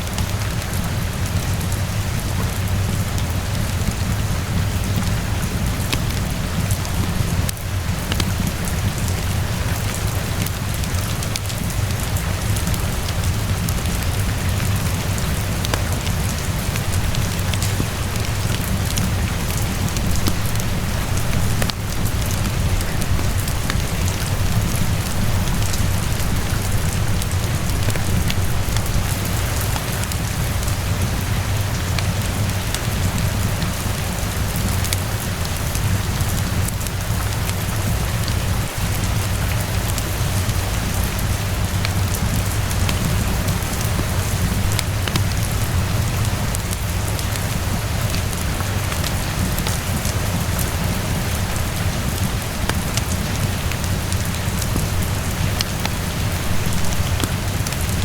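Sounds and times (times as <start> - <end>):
rainfall hiss: 0.0 - 58.0.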